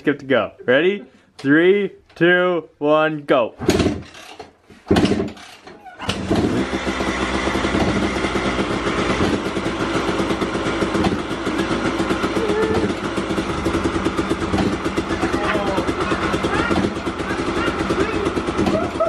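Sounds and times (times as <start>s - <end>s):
dirt bike engine kick-started: 3.7s - 19.0s.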